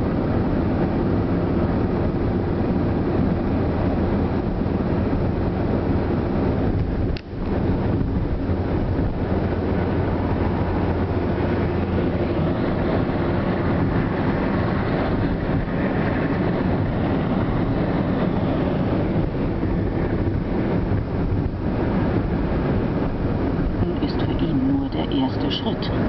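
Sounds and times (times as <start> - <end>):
car engine running: 0.0 - 26.0
road and wind noise in car: 0.0 - 26.0.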